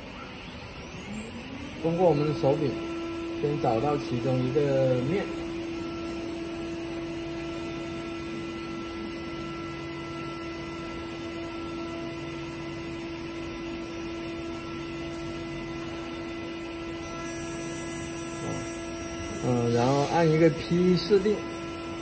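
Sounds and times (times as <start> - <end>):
low motor hum: 0.0 - 22.0
milling machine spindle whine: 0.0 - 22.0.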